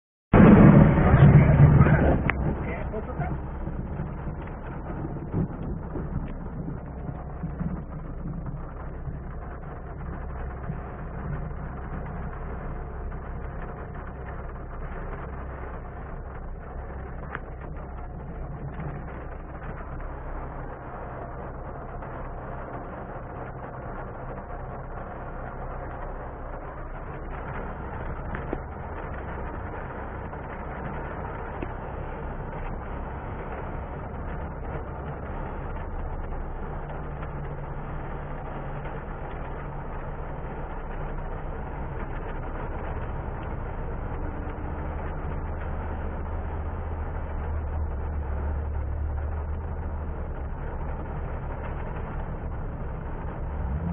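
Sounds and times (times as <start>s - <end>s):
car engine and tyre rumble: 0.3s - 53.9s
tyres hissing on wet road: 0.4s - 53.9s.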